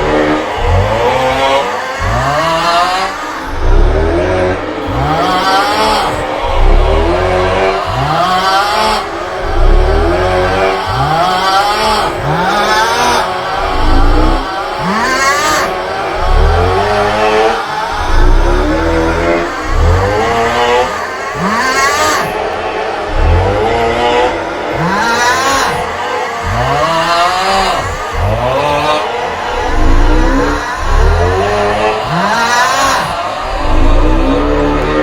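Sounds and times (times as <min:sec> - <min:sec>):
man groaning snore: 0:00.0 - 0:22.4, 0:24.4 - 0:28.8, 0:29.4 - 0:34.6
heavy deep bass: 0:00.0 - 0:35.0.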